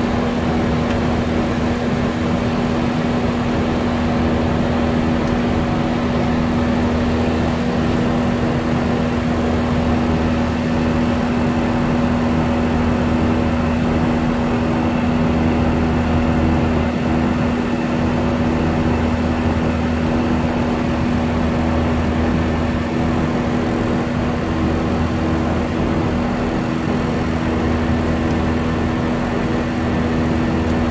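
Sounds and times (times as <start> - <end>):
airliner drone in cockpit: 0.0 - 30.9
constant low hum: 0.0 - 30.9.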